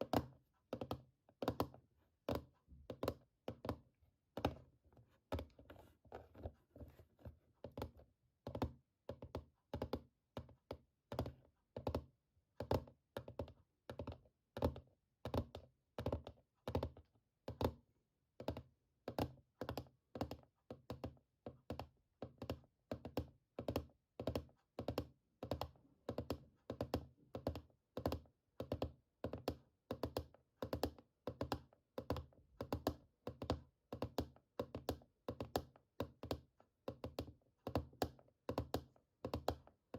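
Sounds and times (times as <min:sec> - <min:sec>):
fingertips tapping on object: 0:00.0 - 0:17.8, 0:18.4 - 0:39.9.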